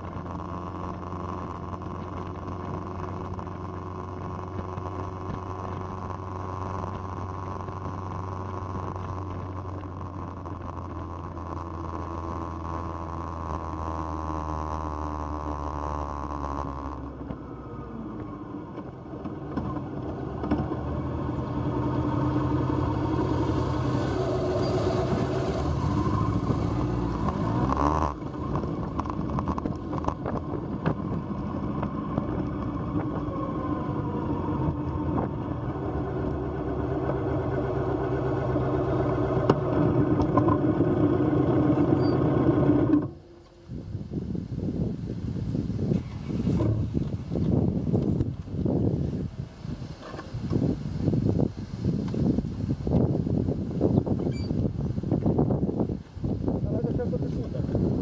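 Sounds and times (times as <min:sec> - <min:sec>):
motorcycle engines: 0:00.0 - 0:58.0.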